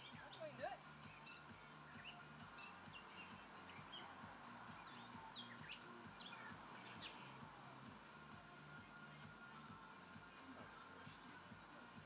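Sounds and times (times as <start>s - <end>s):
faint background noise: 0.0s - 12.0s
songbirds chirping and whistling: 0.0s - 12.0s.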